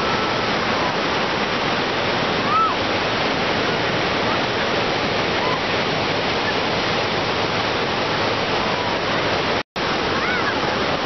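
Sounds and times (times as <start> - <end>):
small waves breaking: 0.0 - 11.0.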